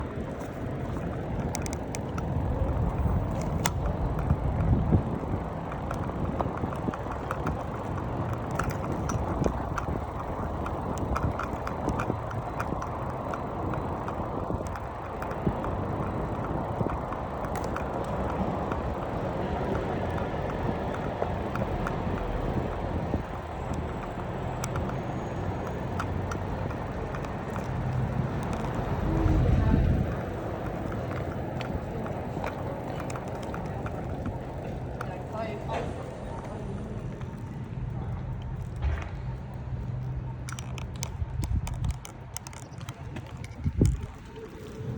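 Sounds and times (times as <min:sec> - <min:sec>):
bicycle clicks and rattles: 0:00.0 - 0:44.9
wind and tyre noise: 0:00.0 - 0:44.9.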